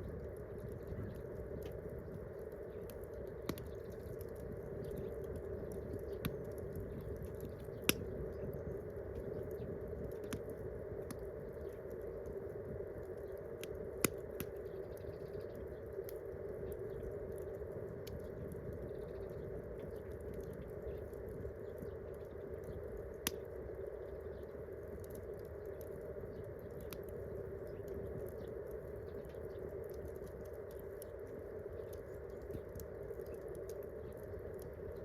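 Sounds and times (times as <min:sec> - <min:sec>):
campfire rushing: 0:00.0 - 0:35.0
fire crackles: 0:00.0 - 0:35.0.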